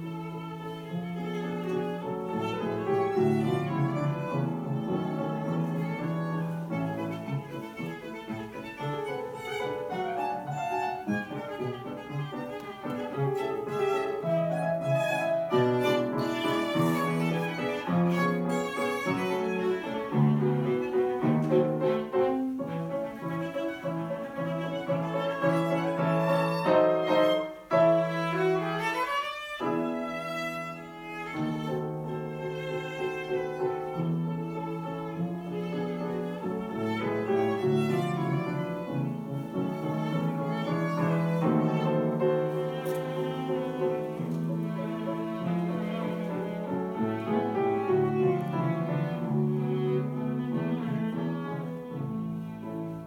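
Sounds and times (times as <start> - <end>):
bowed string instrument: 0.0 - 53.0
grand piano playing: 0.0 - 53.0.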